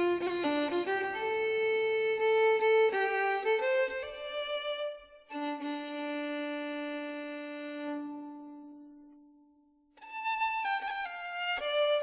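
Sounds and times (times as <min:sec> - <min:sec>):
violin music: 0:00.0 - 0:09.4, 0:10.0 - 0:12.0.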